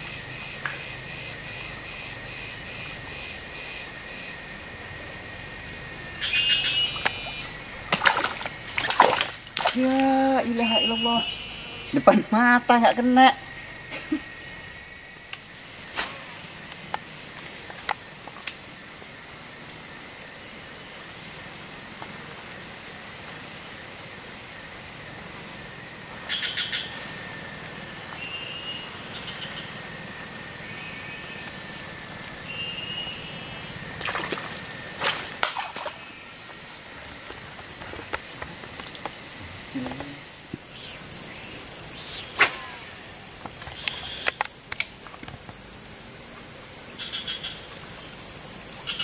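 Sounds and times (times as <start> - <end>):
high-pitched insect drone: 0.0 - 21.9, 22.6 - 49.0.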